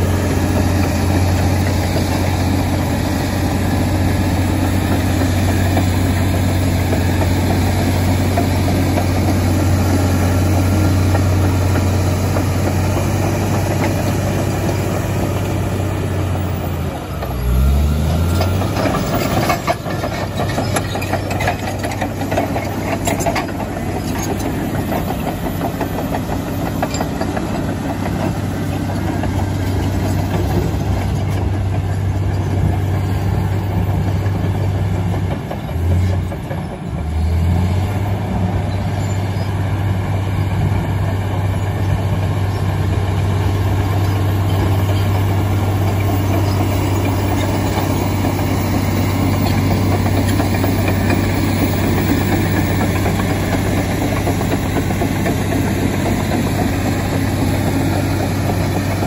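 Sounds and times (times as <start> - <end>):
bulldozer diesel engine humming: 0.0 - 59.0.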